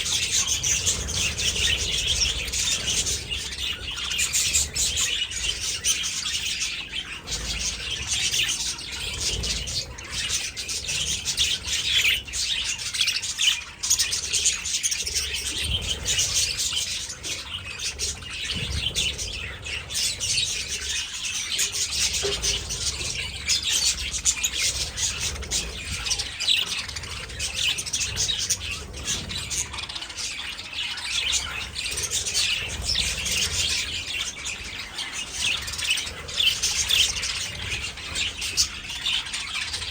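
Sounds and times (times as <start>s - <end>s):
budgerigar flock chattering: 0.0s - 39.9s.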